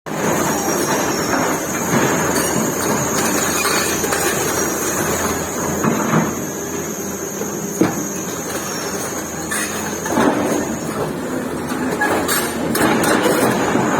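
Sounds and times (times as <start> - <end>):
diesel machinery noise: 0.1 - 13.9.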